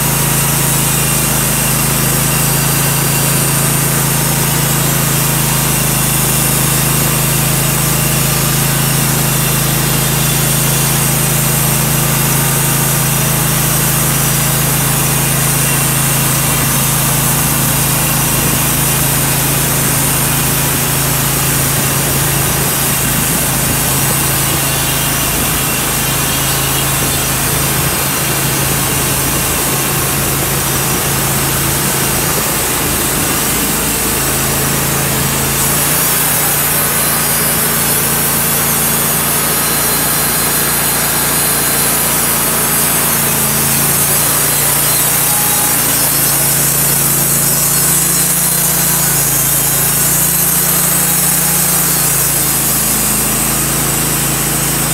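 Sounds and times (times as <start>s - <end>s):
band blade sawing log: 0.0s - 54.9s
sawmill engine humming: 0.0s - 54.9s.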